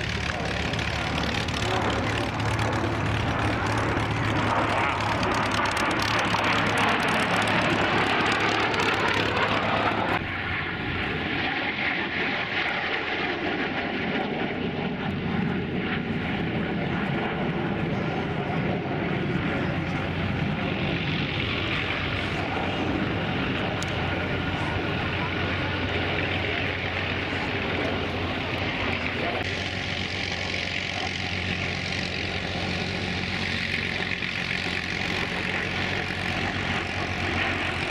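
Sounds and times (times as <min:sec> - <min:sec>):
jet engine whine: 0:00.0 - 0:37.9
jet fighters flying past: 0:00.0 - 0:37.9.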